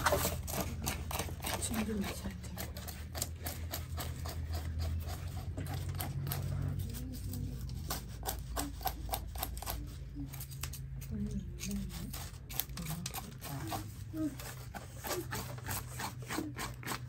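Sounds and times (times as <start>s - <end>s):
knife scraping fish scales: 0.0s - 17.0s.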